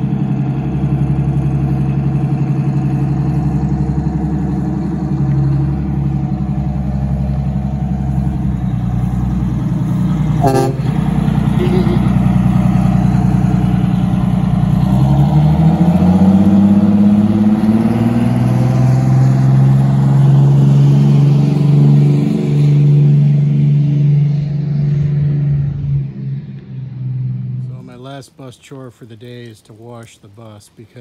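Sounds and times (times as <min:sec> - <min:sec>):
bus engine accelerating: 0:00.0 - 0:28.2.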